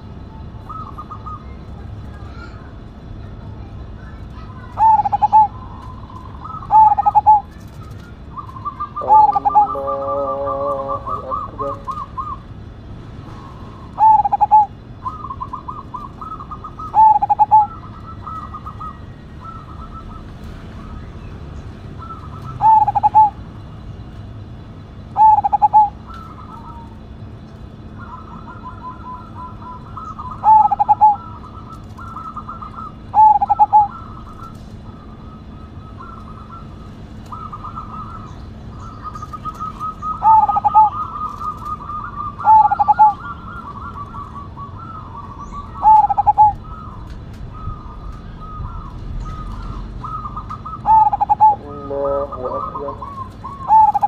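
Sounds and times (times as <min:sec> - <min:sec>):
dove cooing: 0:00.0 - 0:54.0
soft rapid stuttering bird notes: 0:00.0 - 0:54.0.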